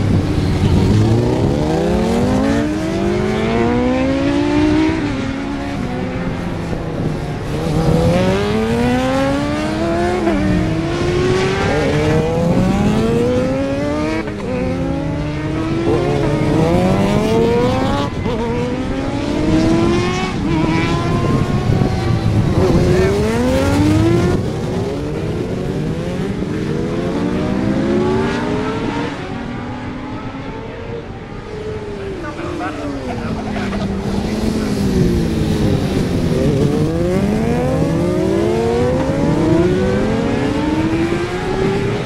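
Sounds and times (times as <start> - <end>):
racing motorcycle engines accelerating: 0.0 - 42.0.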